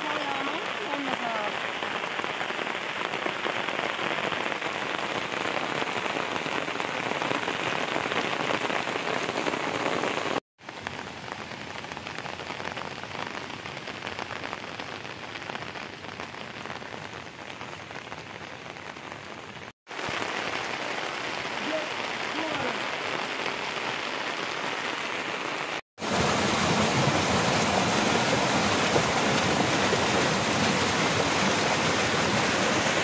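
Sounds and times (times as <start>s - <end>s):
rain falling on wet ground: 0.0s - 33.0s.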